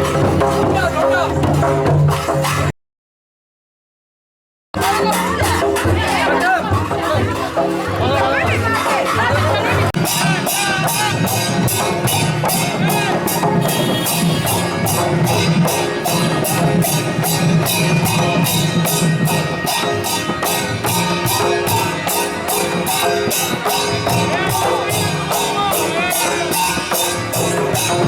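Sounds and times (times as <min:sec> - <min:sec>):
crisp high percussion hits: 0:00.0 - 0:02.7, 0:04.8 - 0:28.0.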